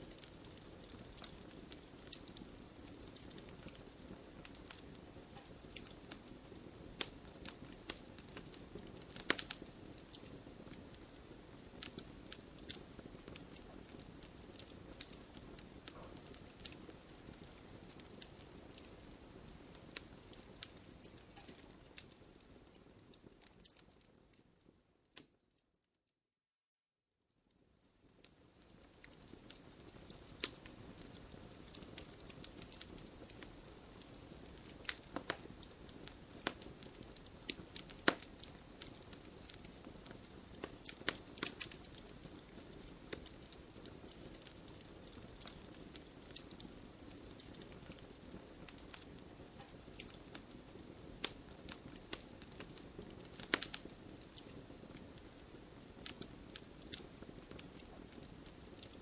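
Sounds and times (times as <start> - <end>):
wood fire crackling: 0.0 - 25.4, 27.5 - 59.0.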